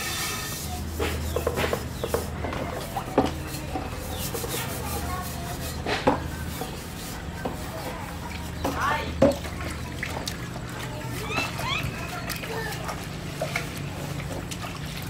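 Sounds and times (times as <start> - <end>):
dishes scrubbed in washbasin: 0.0 - 15.0.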